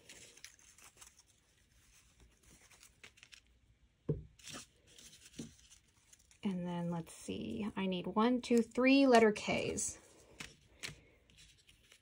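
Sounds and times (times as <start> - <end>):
fabric and paper rustling: 0.0 - 3.6, 4.3 - 7.5, 8.5 - 12.0.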